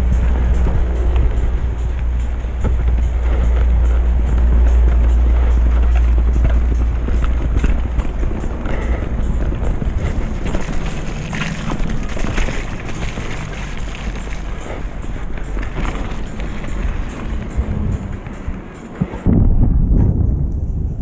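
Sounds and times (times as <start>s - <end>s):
bike rattling and knocking: 0.0s - 20.3s
bike tyre noise: 0.0s - 21.0s
wind buffeting microphone: 0.0s - 21.0s.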